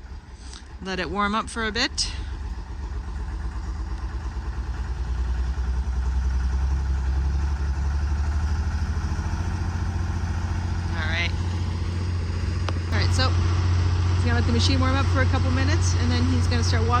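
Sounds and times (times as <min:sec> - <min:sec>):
excavator engine idling: 0:00.0 - 0:17.0.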